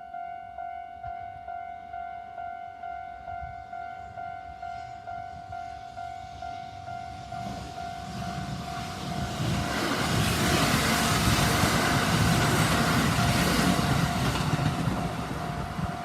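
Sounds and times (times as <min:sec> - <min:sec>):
approaching train rumble: 0:03.2 - 0:16.0.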